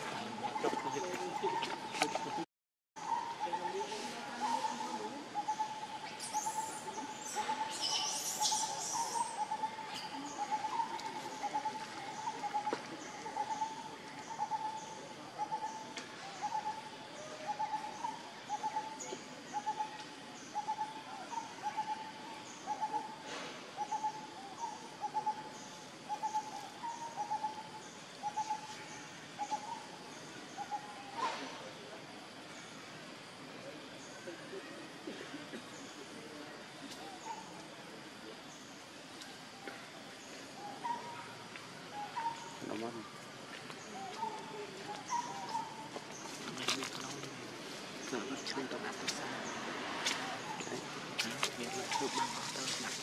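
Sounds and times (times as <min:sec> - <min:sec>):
bird chirping: 0:03.0 - 0:33.0, 0:33.9 - 0:53.0.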